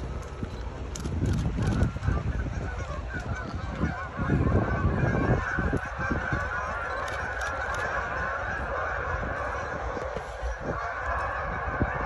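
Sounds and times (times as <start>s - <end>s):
geese honking: 1.1s - 12.0s.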